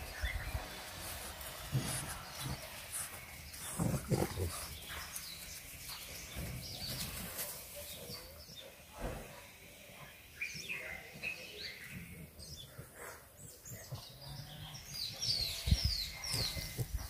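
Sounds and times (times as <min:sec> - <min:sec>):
puppies grunting and snuffling: 0:00.0 - 0:08.5, 0:11.7 - 0:17.0.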